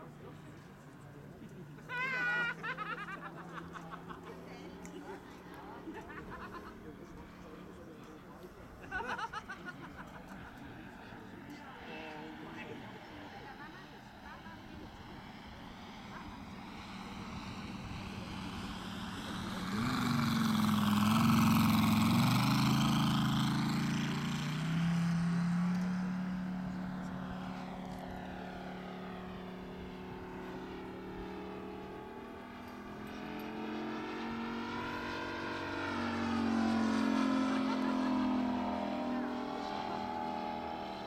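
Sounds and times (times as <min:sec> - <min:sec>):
model airplane engine passing: 0:00.0 - 0:41.0.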